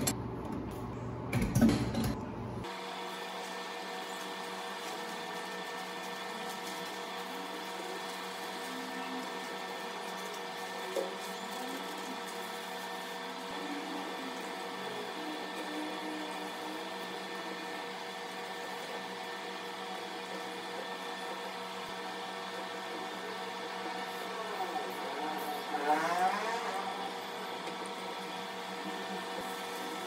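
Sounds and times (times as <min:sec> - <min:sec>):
steady motor-like hum: 0:00.0 - 0:30.0.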